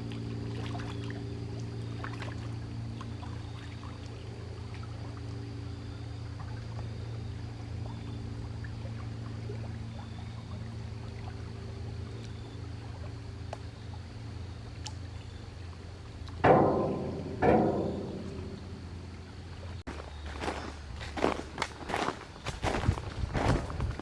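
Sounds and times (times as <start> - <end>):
water splashes: 0.0 - 19.8
water lapping at shore: 0.0 - 23.9
steady low hum: 0.0 - 24.0.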